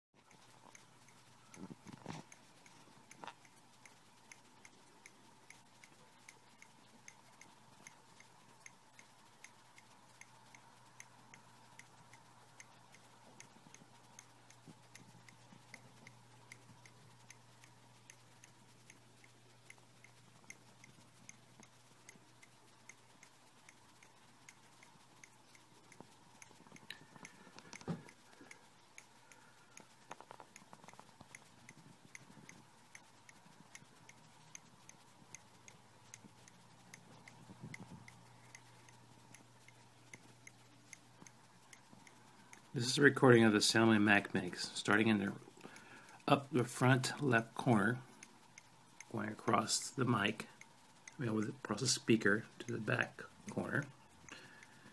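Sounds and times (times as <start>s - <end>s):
faint laptop ticking: 0.2s - 54.9s.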